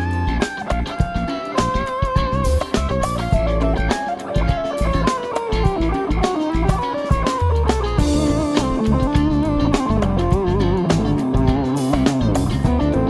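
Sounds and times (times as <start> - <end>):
backing drums: 0.0 - 13.0
bass guitar: 0.0 - 13.0
electric guitar lead line: 0.0 - 13.0.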